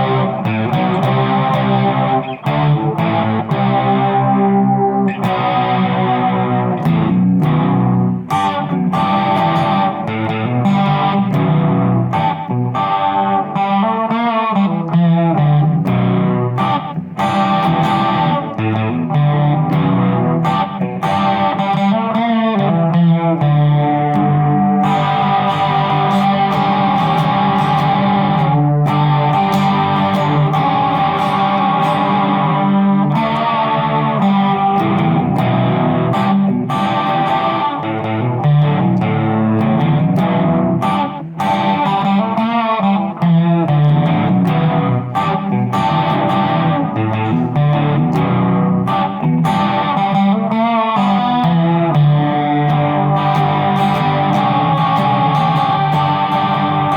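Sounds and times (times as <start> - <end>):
distorted electric guitar: 0.0 - 56.9.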